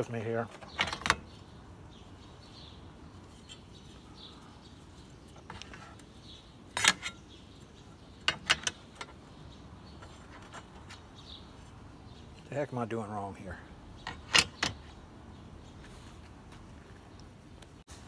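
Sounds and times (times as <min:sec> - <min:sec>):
faint bird chirps: 0:00.3 - 0:16.2.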